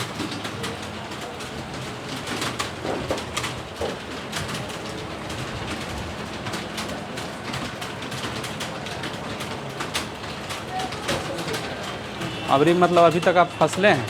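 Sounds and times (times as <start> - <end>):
keyboards typing: 0.0 - 14.0.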